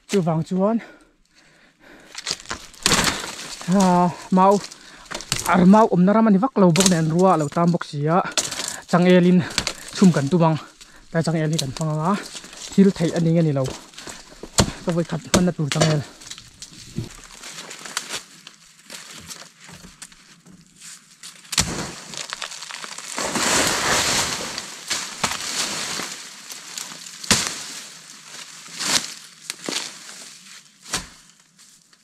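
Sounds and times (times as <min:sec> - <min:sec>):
dry leaves crunching and rustling: 0:02.2 - 0:05.9, 0:06.6 - 0:32.0.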